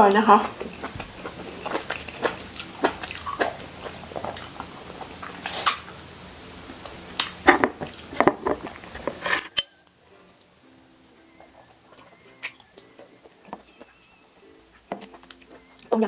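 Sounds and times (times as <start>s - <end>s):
wet chewing and smacking: 0.0s - 6.1s, 6.8s - 10.5s, 11.2s - 16.0s.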